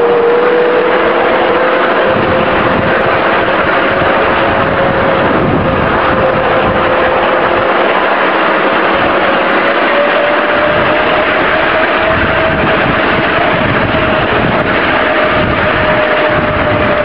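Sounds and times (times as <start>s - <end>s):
continuous rushing noise: 0.0s - 17.0s
electric locomotive motor whine: 0.0s - 17.0s.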